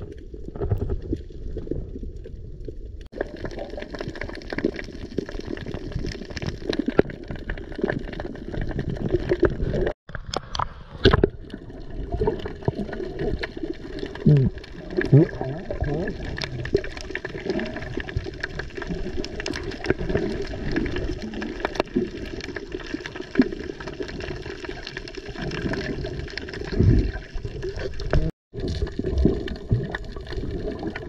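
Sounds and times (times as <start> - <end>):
sea water sloshing and splashing: 0.0 - 31.0.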